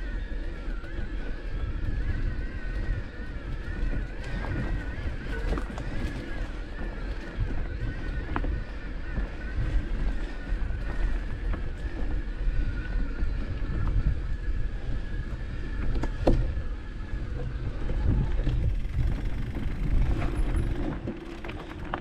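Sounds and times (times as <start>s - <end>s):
motocross bike engines: 0.0s - 22.0s
wind rumble on microphone: 0.0s - 22.0s.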